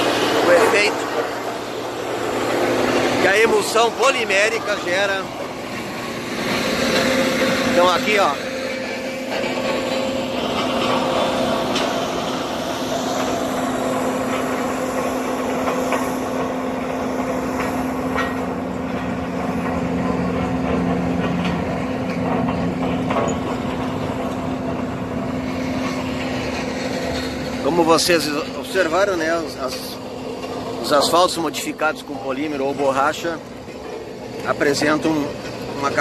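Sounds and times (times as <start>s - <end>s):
heavy machinery engine drone: 0.0s - 36.0s
low hum: 0.0s - 36.0s.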